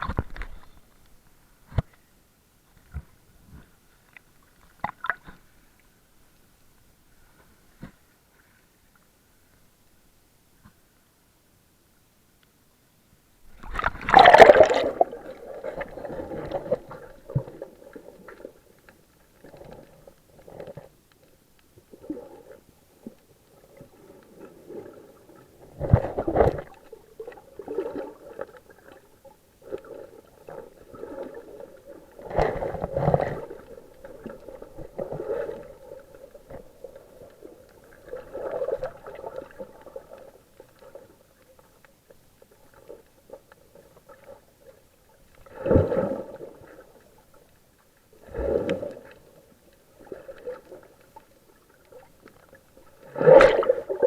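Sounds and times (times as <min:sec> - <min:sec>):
underwater gurgling and sloshing: 0:00.0 - 0:11.4, 0:13.0 - 0:54.0.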